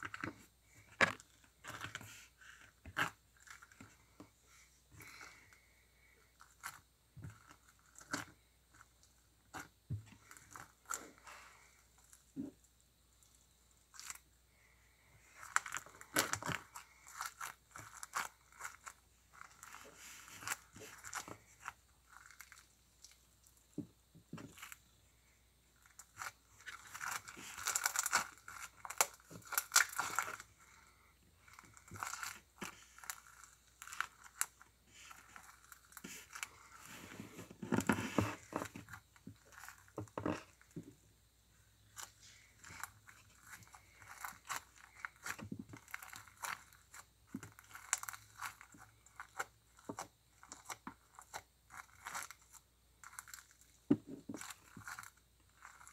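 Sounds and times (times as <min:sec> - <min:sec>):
crunchy slime crackling: 0:00.0 - 0:55.9.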